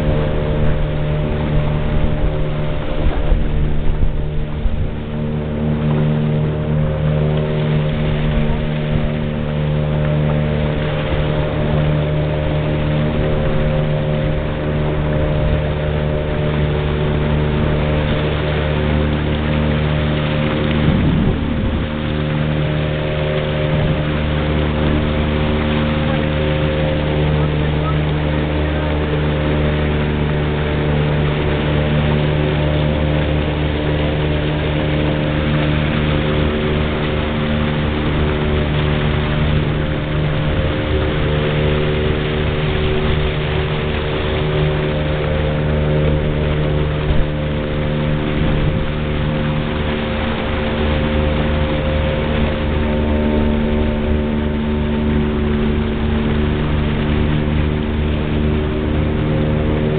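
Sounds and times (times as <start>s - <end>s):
boat motor running: 0.0s - 59.9s
constant rushing noise: 0.0s - 59.9s.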